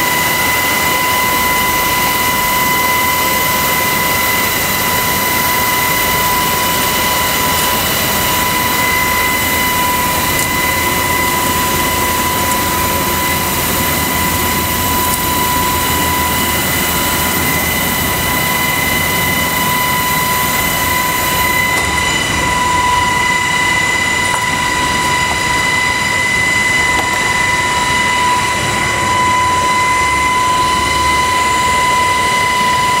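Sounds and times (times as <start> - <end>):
helicopter cabin drone: 0.0 - 33.0
high whine: 0.0 - 33.0.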